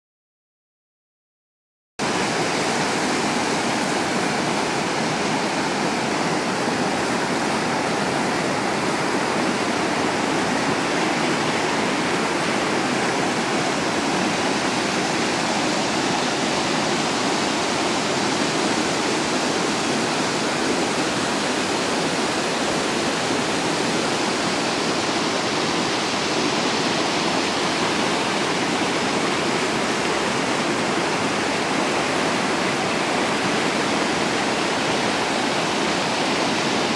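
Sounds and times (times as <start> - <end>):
water rushing over rocks: 2.0 - 36.9.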